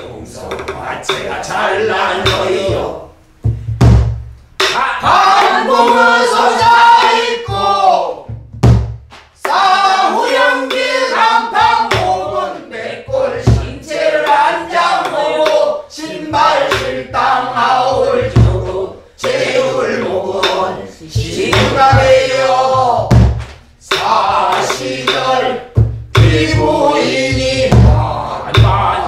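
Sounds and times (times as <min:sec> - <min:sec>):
deep barrel drum strokes: 0:00.0 - 0:12.5, 0:13.1 - 0:15.6, 0:16.2 - 0:29.0.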